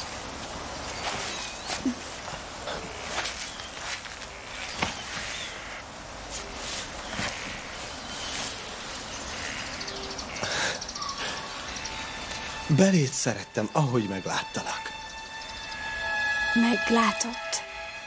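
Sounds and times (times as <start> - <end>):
steady hiss: 0.0 - 17.1.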